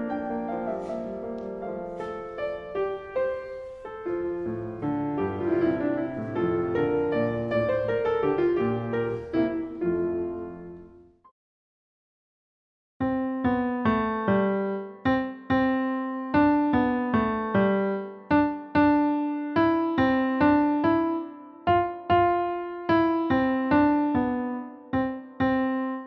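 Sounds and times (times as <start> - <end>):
digital piano melody: 0.0 - 11.2, 13.0 - 26.0.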